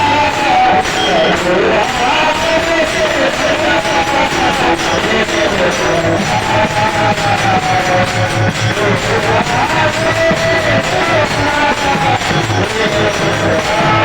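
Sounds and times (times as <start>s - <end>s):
jingling percussion: 0.0s - 14.0s
steady drum beat: 0.0s - 14.0s.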